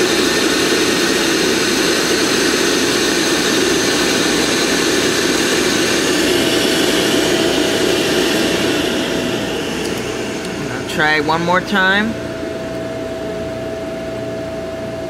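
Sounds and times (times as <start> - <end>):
boiler blower running: 0.0 - 15.0.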